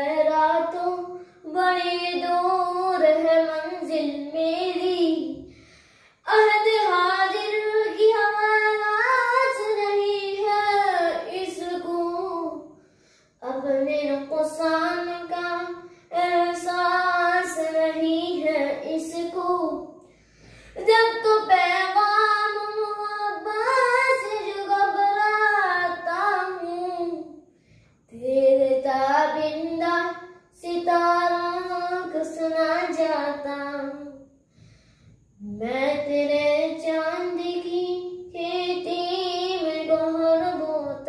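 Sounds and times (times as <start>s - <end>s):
boy singing unaccompanied: 0.0s - 5.6s, 6.2s - 12.8s, 13.4s - 20.1s, 20.7s - 27.4s, 28.1s - 34.3s, 35.4s - 41.0s.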